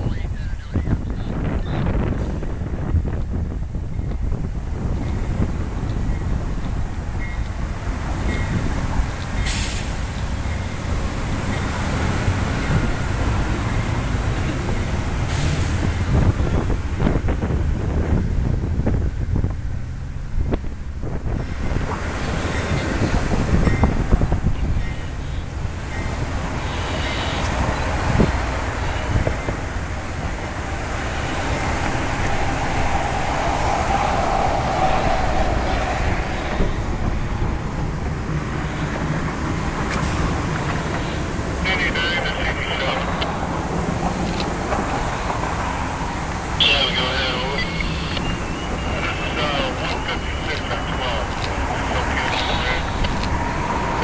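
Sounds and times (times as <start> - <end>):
diesel locomotive passing slowly: 0.0 - 54.0
passenger cars rumbling by: 0.0 - 54.0
higher rolling noise: 1.9 - 54.0.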